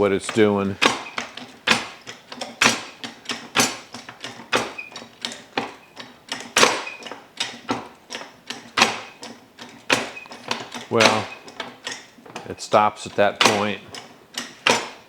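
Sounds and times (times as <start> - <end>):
floor jack metallic clacks: 0.0 - 15.0.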